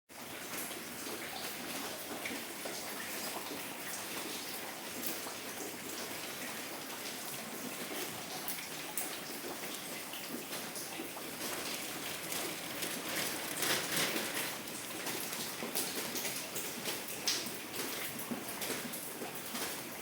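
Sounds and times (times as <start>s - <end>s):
rainwater dripping and splashing: 0.1s - 20.0s.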